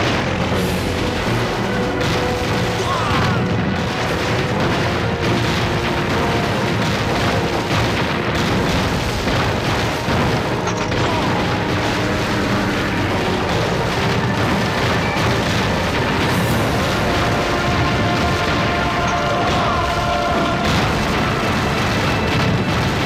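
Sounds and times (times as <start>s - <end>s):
background music: 0.0s - 23.0s
explosions: 0.0s - 23.0s.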